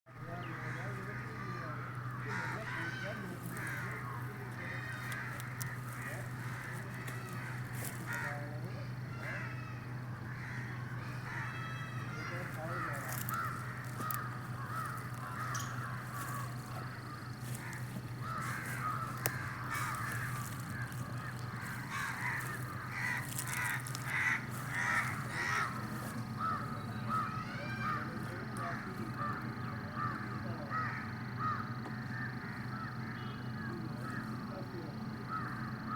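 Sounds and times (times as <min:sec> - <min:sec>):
birds calling: 0:00.1 - 0:35.9
steady low hum: 0:00.1 - 0:35.9.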